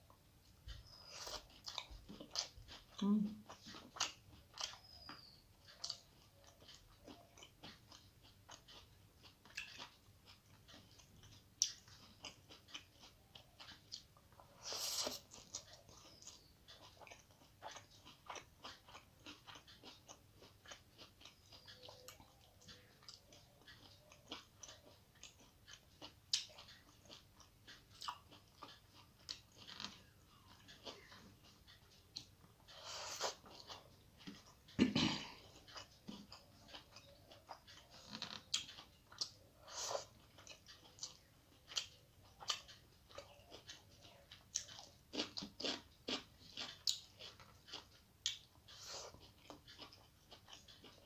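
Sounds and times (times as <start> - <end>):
chewing mouth clicks: 0.7 - 51.0.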